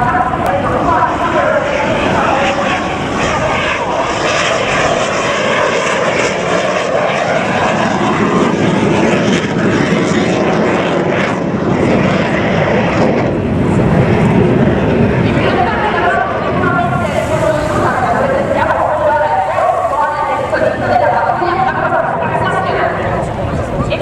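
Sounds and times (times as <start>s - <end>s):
jet engine roaring: 0.0s - 24.0s.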